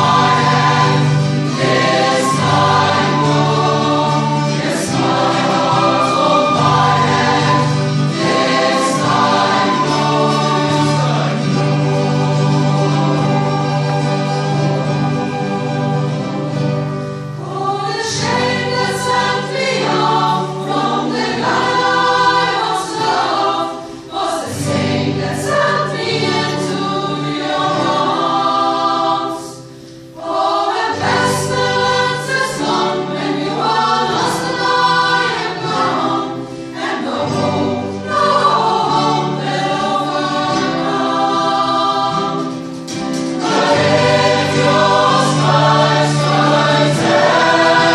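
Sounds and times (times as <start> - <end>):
choir singing held chords: 0.0 - 47.9.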